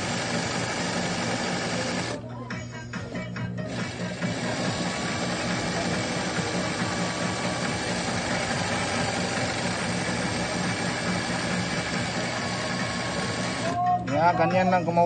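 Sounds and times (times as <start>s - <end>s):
sewing machine running: 0.0s - 2.2s, 3.6s - 13.8s.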